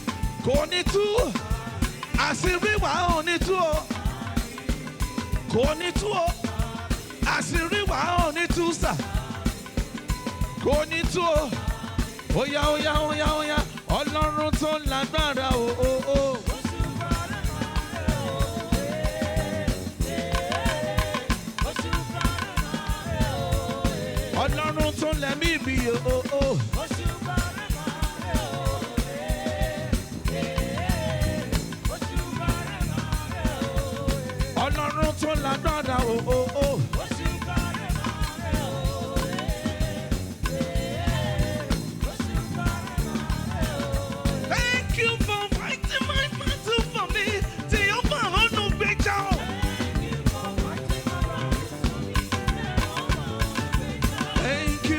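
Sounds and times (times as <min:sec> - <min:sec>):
drum kit fast beat: 0:00.0 - 0:54.9
live band playing gospel music: 0:00.0 - 0:54.9.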